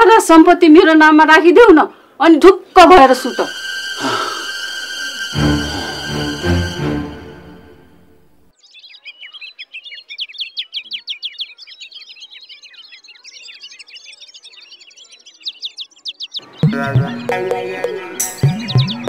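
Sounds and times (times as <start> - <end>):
birds chirping: 1.9 - 19.0.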